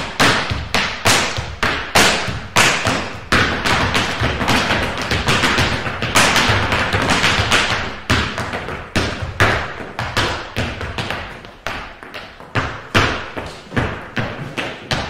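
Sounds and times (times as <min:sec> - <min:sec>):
boots stamping on hard floor: 0:00.0 - 0:15.0.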